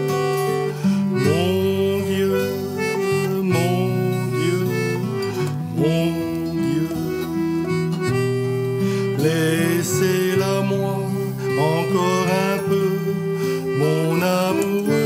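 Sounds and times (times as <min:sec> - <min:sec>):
acoustic guitar: 0:00.0 - 0:15.0
free-reed instrument chords: 0:00.0 - 0:15.0.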